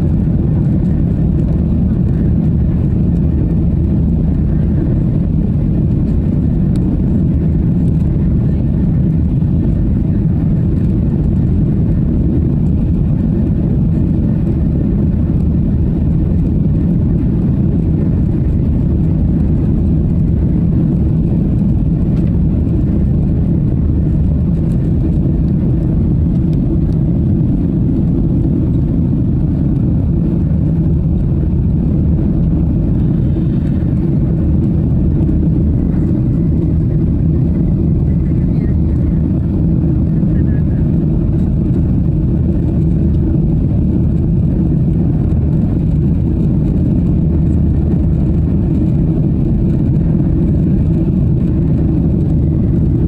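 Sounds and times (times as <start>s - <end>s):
jet engines droning: 0.0s - 53.0s
rushing airflow: 0.0s - 53.0s.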